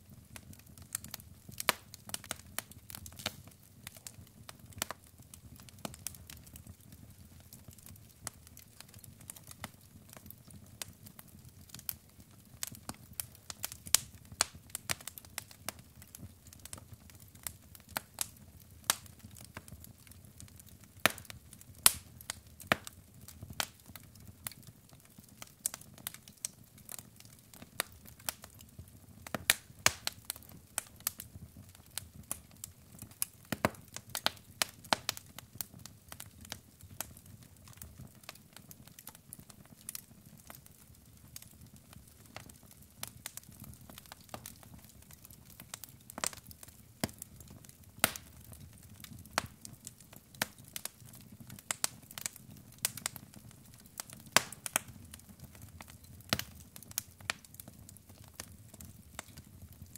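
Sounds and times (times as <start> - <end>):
logs crackling and popping: 0.0 - 59.9.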